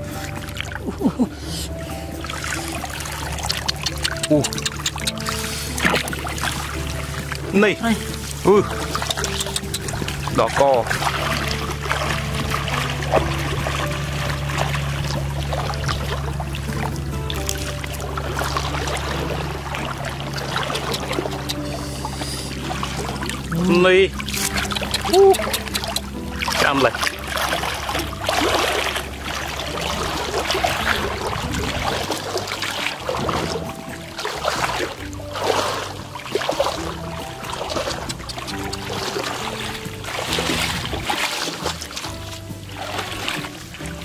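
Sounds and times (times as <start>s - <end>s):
background music: 0.0s - 44.0s
muddy water splashing: 0.0s - 44.0s.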